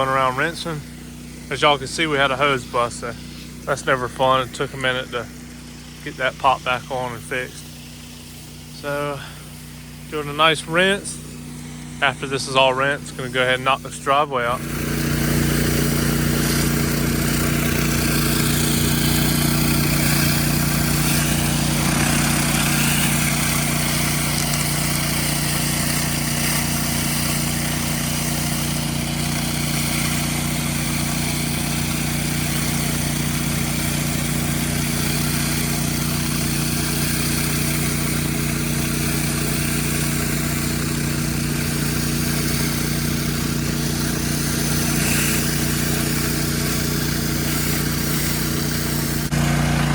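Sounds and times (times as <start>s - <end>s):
high-pressure water spraying: 0.0s - 49.9s
pressure washer engine running: 0.0s - 49.9s.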